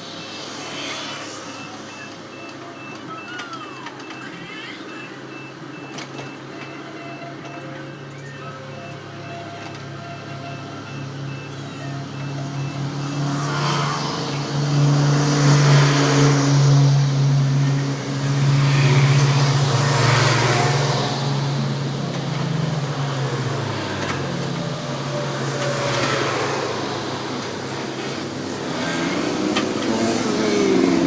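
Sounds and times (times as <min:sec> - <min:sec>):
heavy diesel engine running: 0:01.6 - 0:31.0.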